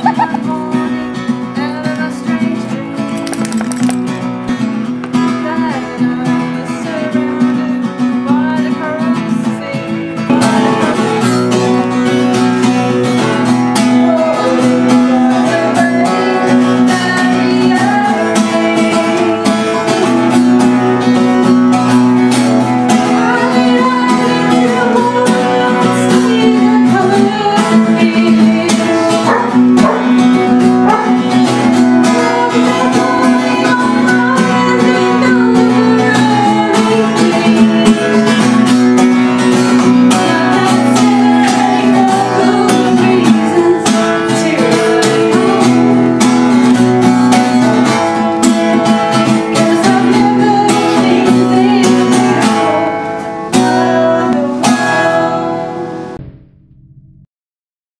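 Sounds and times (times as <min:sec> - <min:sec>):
person singing folk song: 0:00.0 - 0:56.2
acoustic guitar strumming: 0:00.0 - 0:57.3.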